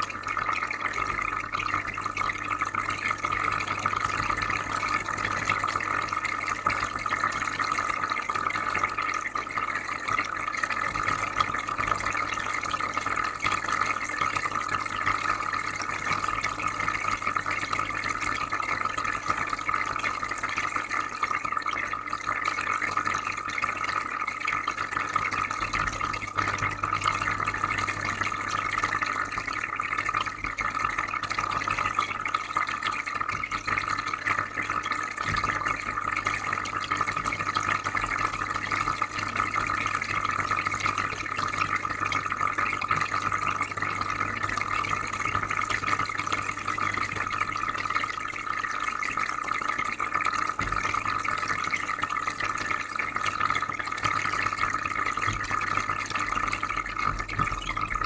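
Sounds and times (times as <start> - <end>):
aquarium filter bubbling water: 0.0 - 58.0.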